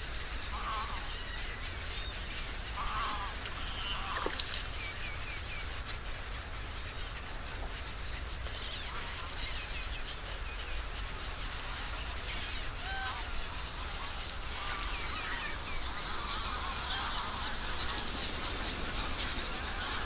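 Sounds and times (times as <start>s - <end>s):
birds calling: 0.0s - 20.0s
steady low rumble: 0.0s - 20.0s.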